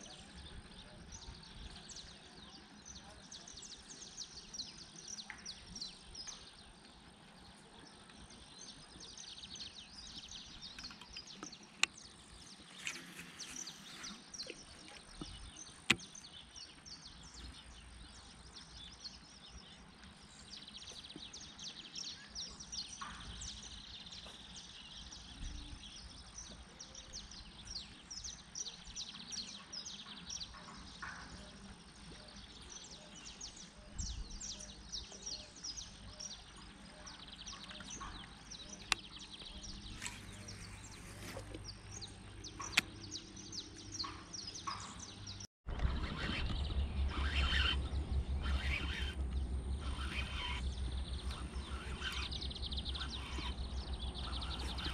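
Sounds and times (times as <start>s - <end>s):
birds chirping and calling: 0.0s - 54.9s.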